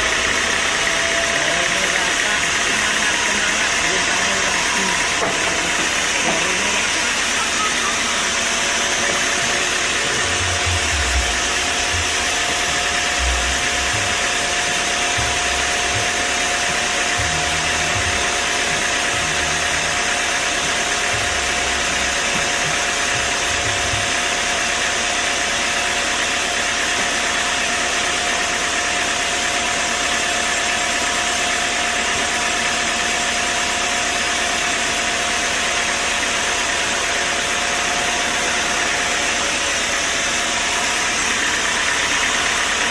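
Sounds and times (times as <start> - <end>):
sawmill machinery whining: 0.0 - 42.9.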